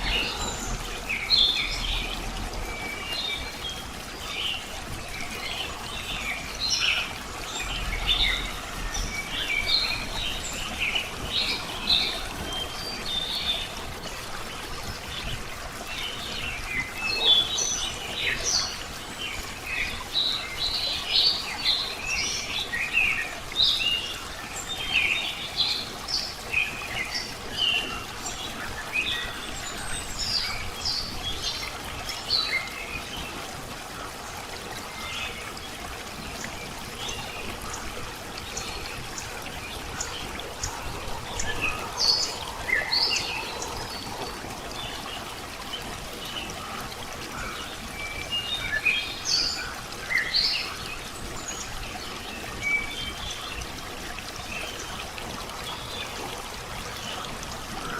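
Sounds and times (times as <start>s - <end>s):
trickle of running water: 0.0s - 57.9s.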